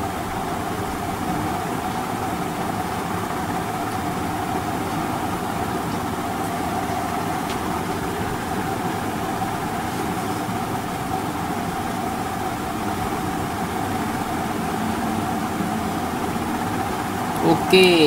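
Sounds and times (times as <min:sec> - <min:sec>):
constant mid-pitched tone: 0:00.0 - 0:18.0
machine hum and hiss: 0:00.0 - 0:18.0.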